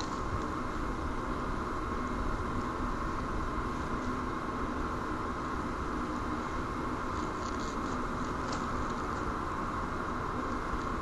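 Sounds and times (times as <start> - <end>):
faint steady tone: 0.0 - 11.0.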